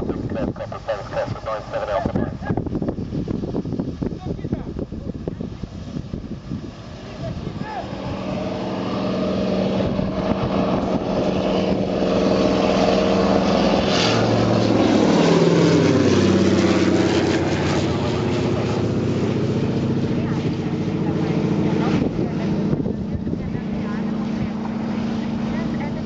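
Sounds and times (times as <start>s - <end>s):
propeller plane flying overhead: 0.0s - 26.0s.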